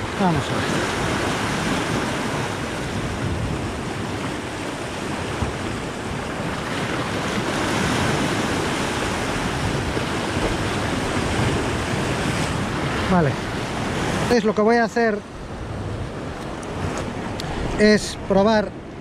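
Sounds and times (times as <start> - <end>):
surf washing against rocks: 0.0 - 19.0.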